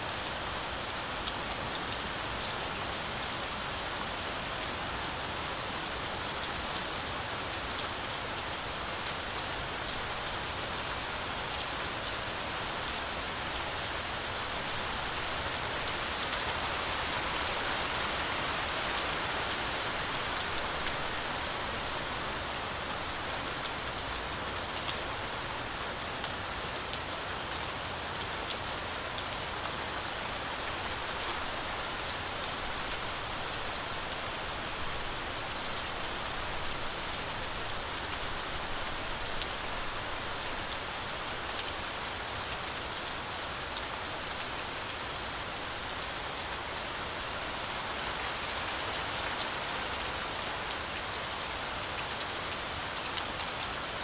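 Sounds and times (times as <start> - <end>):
heavy rain in a forest: 0.0 - 54.0.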